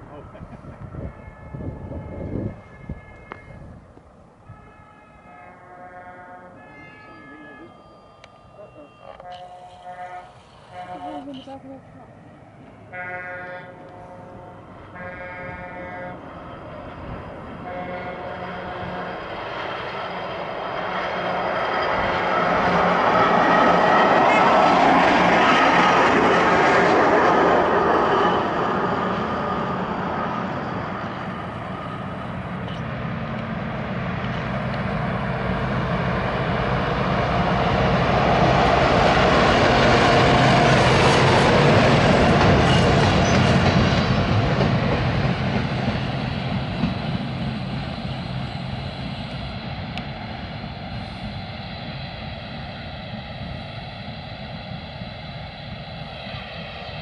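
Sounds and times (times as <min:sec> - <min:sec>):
steel wheels rumbling on rails: 0:07.2 - 0:57.0.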